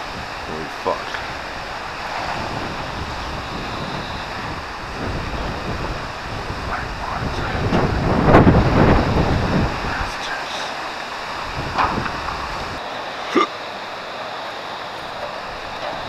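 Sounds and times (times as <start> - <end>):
wind blowing across microphone: 0.0 - 12.9, 14.9 - 16.0.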